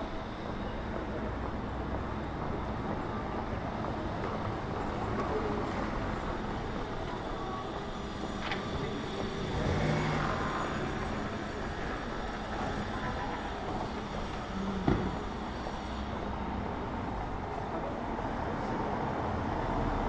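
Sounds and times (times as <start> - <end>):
road traffic rumble and hiss: 0.0 - 20.0.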